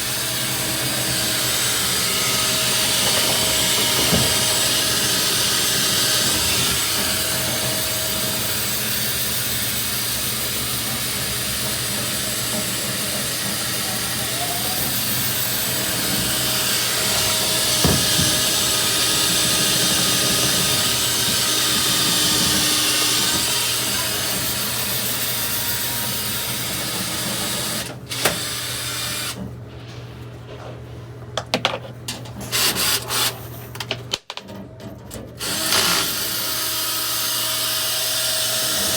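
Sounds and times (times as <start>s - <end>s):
power drill running: 0.0s - 29.4s, 35.4s - 38.9s.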